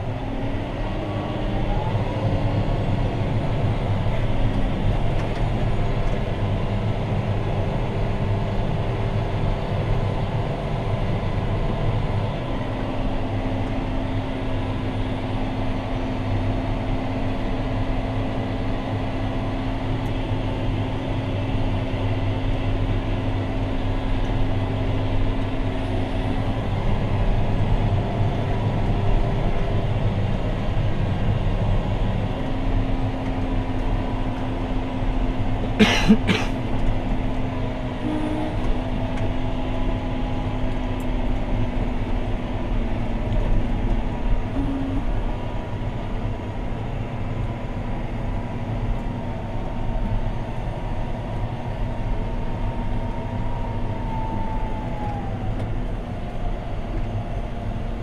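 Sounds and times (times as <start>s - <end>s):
tractor diesel engine running: 0.0s - 58.0s
whining tone in engine drone: 0.0s - 58.0s.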